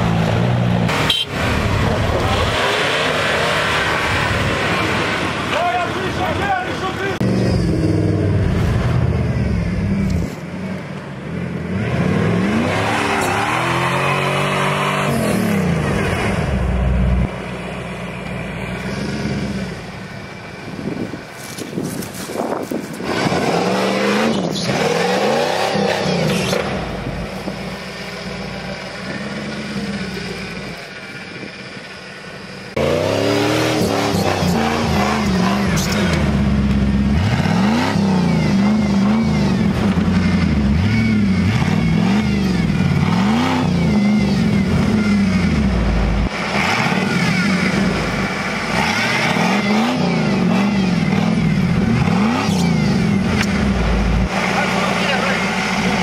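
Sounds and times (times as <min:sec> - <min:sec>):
off-road engine revving: 0:00.0 - 0:20.1, 0:22.4 - 0:56.0.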